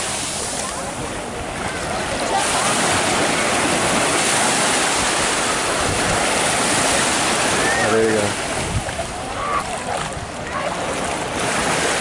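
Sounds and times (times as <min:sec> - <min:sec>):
sea waves rushing: 0:00.0 - 0:12.0.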